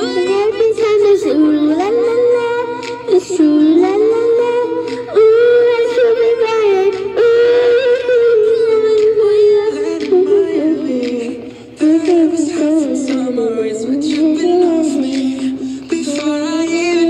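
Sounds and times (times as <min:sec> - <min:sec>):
girl singing into microphone: 0:00.0 - 0:17.0.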